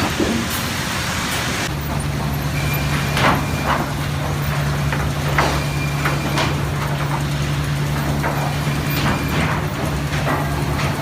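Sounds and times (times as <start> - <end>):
sawmill machinery humming: 0.0 - 11.0
sharp knocks and clatter: 1.9 - 11.0.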